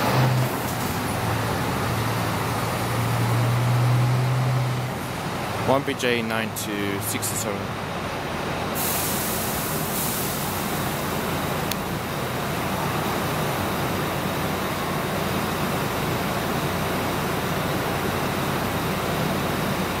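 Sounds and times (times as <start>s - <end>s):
coach engine rumble and hiss: 0.0s - 20.0s
traffic noise: 0.0s - 20.0s.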